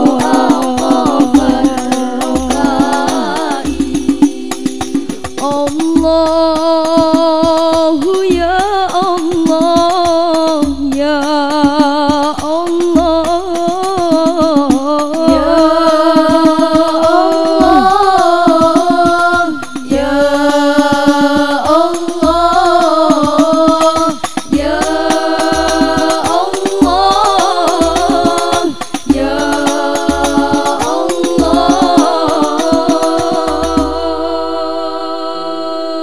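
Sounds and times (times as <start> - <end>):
frame drums: 0.0 - 35.0
girls singing in unison: 0.0 - 36.0.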